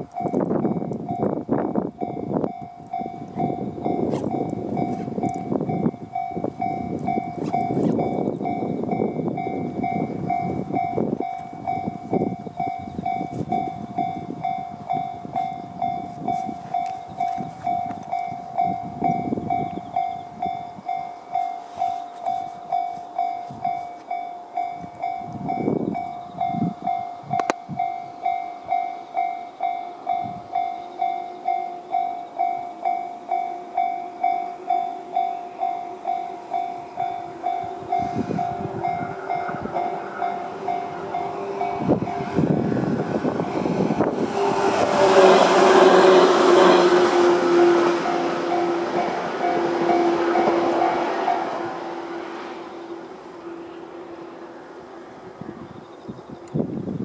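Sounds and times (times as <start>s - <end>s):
electric train rumble over rails: 0.0s - 57.0s.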